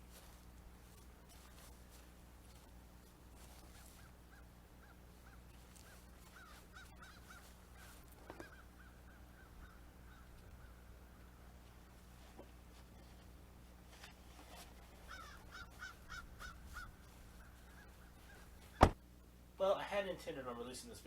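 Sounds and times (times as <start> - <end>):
bird calling faintly: 0.0 - 13.3, 14.4 - 19.0
steady low hum: 0.0 - 21.0.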